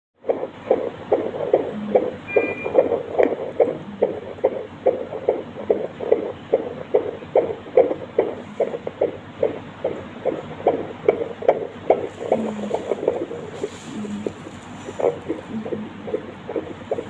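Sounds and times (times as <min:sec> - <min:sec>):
fetal heartbeat on doppler monitor: 0:00.2 - 0:17.0.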